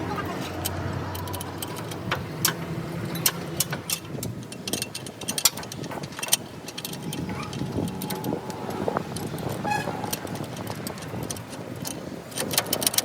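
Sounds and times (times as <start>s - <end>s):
steady engine hum: 0.0s - 13.0s
sharp metallic clicks and taps: 0.5s - 13.0s.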